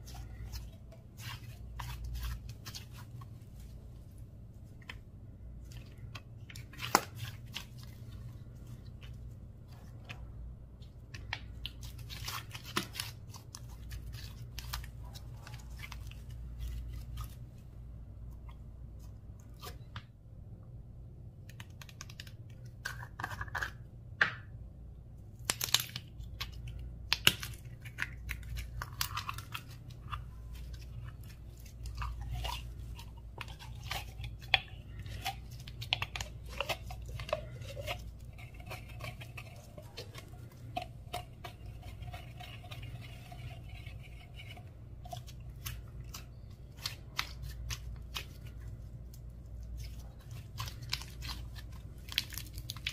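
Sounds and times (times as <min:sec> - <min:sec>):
slime crackling and squelching: 0:00.0 - 0:19.9, 0:25.4 - 0:52.9
low steady hum: 0:00.0 - 0:52.9.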